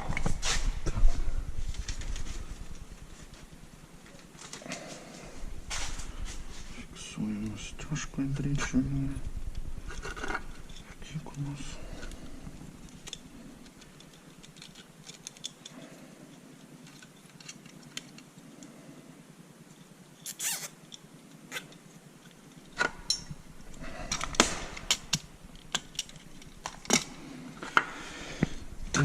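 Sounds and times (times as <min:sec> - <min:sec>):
small clicks and rustles: 0:01.6 - 0:07.6, 0:08.4 - 0:18.9, 0:19.6 - 0:29.0.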